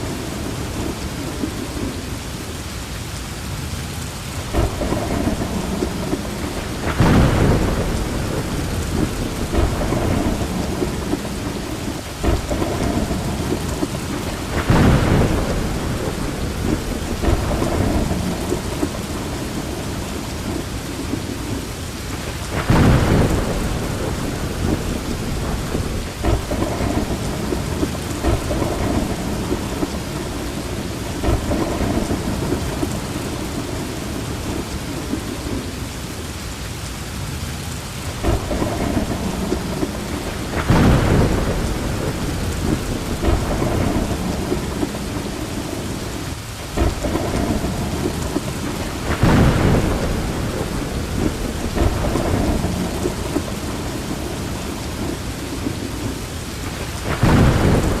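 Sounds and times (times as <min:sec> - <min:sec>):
heavy rain: 0:00.0 - 0:58.0
rolling thunder: 0:04.3 - 0:35.9, 0:38.1 - 0:58.0.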